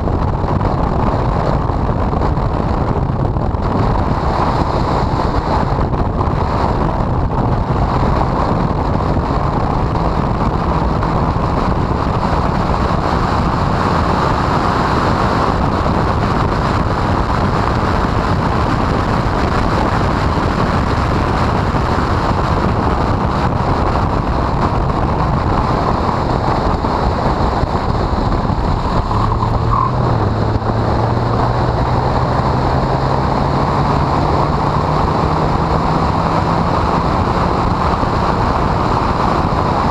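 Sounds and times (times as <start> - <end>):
car engine at speed: 0.0 - 39.9
wind buffeting microphone: 0.0 - 39.9.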